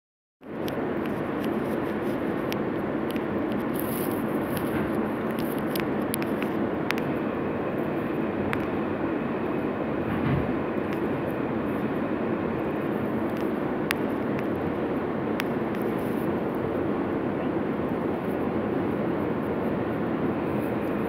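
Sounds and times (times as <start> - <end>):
subway car rumbling: 0.4 - 21.0.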